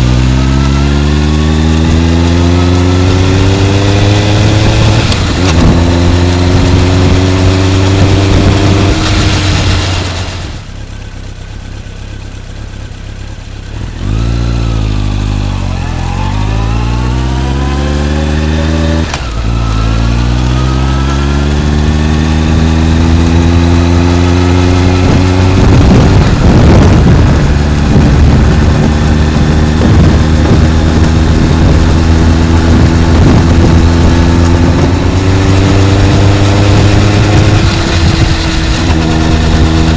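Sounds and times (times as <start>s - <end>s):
wind noise on microphone: 0.0s - 10.6s, 15.2s - 39.9s
motorcycle exhaust revving: 0.0s - 39.9s.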